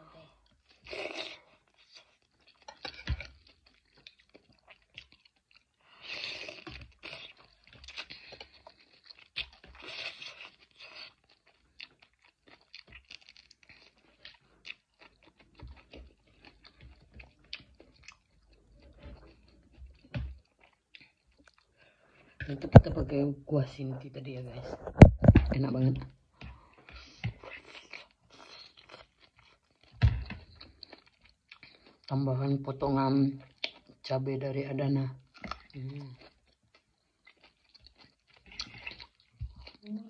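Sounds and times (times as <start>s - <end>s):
person chewing food: 0.1s - 23.3s, 24.3s - 34.2s, 34.8s - 40.0s.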